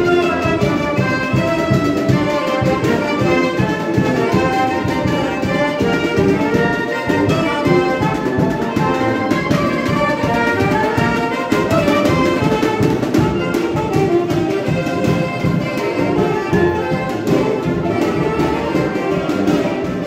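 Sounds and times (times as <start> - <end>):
brass band playing dance music: 0.0 - 20.0
drum kit: 0.0 - 20.0.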